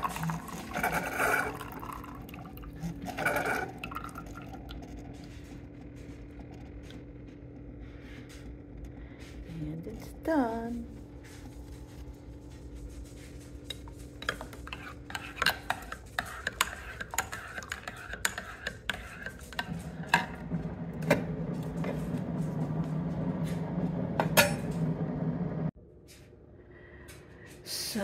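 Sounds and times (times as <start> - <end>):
steady low hum: 0.1 - 28.0.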